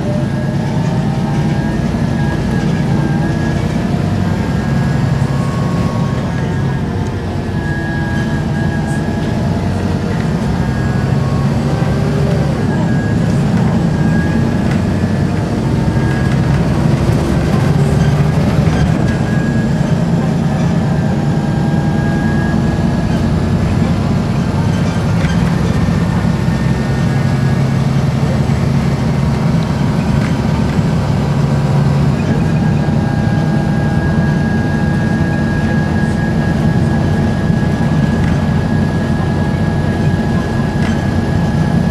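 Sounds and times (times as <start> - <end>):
bus diesel engine droning: 0.0 - 41.9
high steady whine: 0.0 - 41.9.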